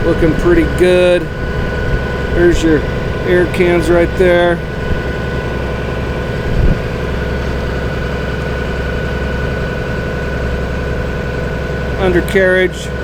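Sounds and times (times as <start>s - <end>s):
engine idling: 0.0s - 13.0s
thin whine: 0.0s - 13.0s.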